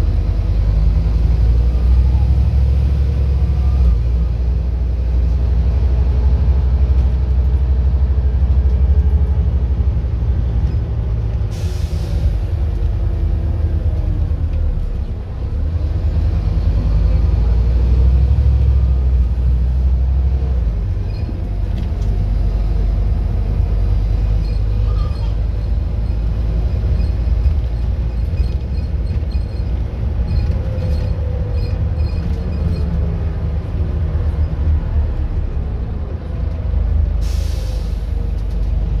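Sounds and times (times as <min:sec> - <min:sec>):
bus engine rumbling: 0:00.0 - 0:39.0.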